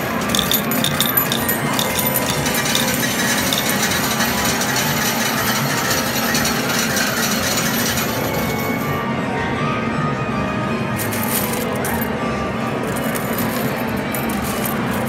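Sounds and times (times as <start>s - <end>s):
metal medals rattling: 0.0s - 9.0s, 11.0s - 12.1s, 12.8s - 15.0s.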